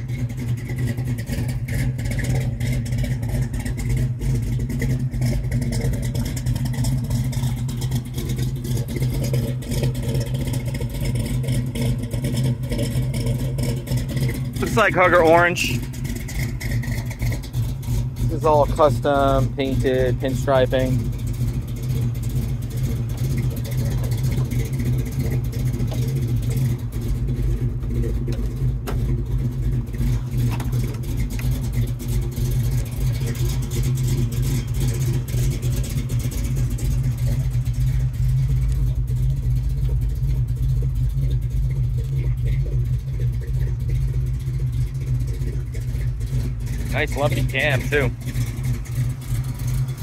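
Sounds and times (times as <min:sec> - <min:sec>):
car engine idling lumpily: 0:00.0 - 0:50.0.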